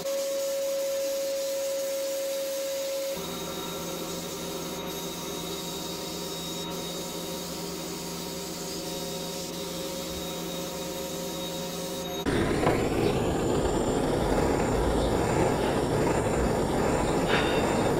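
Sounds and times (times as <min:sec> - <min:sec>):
sandblast gun hissing: 0:00.0 - 0:17.9
steady hum: 0:00.0 - 0:17.9.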